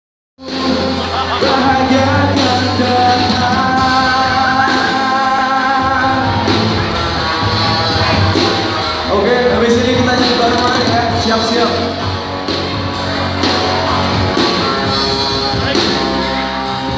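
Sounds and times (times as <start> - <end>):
lead singer: 0.4 - 16.9
live rock band playing: 0.4 - 16.9.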